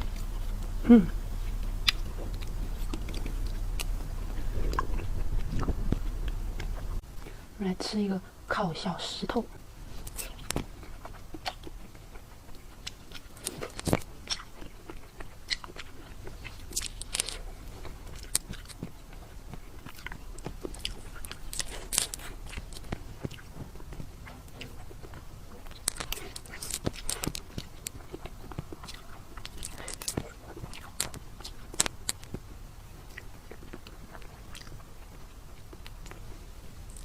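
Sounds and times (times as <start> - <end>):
crunchy chewing of dessert: 0.0 - 7.4, 9.5 - 37.0.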